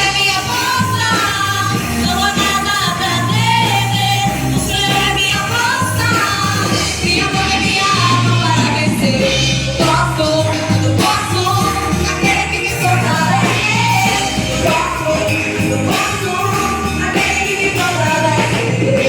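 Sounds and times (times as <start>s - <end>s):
bass notes: 0.0s - 19.0s
drums: 0.0s - 19.0s
person singing: 0.0s - 19.0s.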